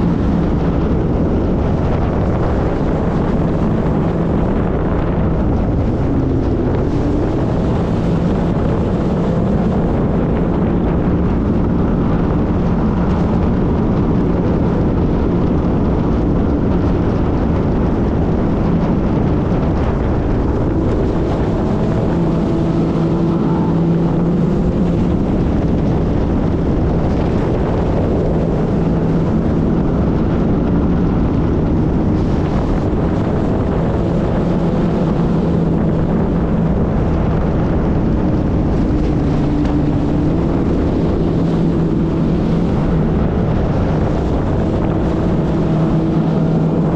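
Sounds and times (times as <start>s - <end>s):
jet ski engine humming: 0.0s - 46.9s
wind noise on microphone: 0.0s - 46.9s.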